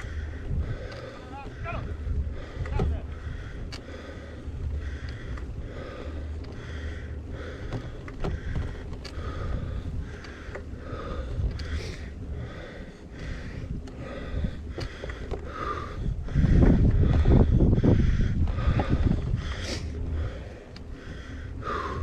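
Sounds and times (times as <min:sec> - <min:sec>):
bike rolling over rough track: 0:00.0 - 0:22.0
wind rumble on microphone: 0:00.0 - 0:22.0.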